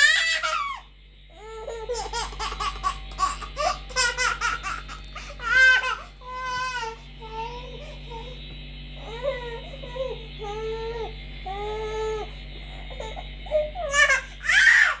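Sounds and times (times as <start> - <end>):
steady low hum: 0.0 - 15.0
baby crying: 1.4 - 8.2, 9.0 - 15.0.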